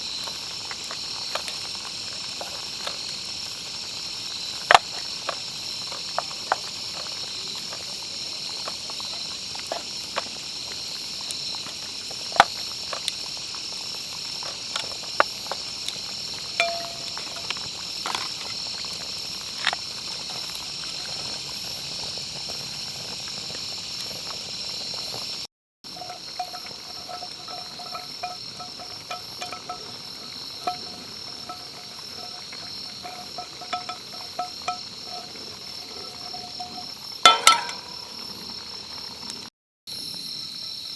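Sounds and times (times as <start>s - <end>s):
insects chirring: 0.0s - 40.9s
low pulsing insect trill: 0.0s - 40.9s.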